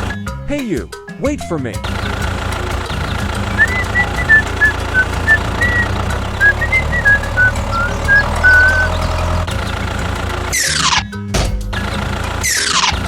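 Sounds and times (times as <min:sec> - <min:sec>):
small vehicle engine rumble: 0:00.0 - 0:00.2, 0:01.8 - 0:11.1, 0:11.7 - 0:13.0.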